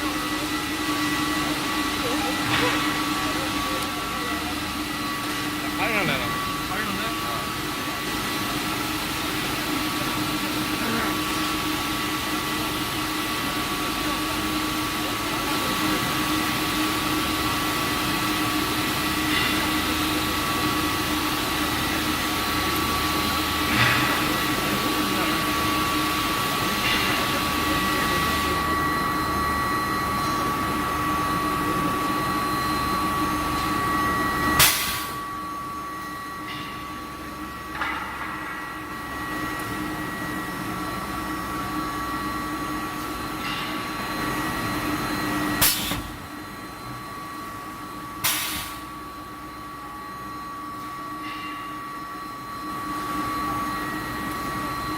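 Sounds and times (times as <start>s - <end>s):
high-pitched heater whine: 0.0s - 54.9s
machinery hum: 0.0s - 54.9s.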